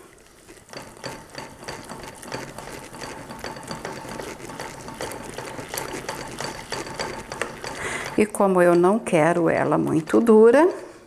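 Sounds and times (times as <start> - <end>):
whisk clicking and scraping pot: 0.0 - 11.0.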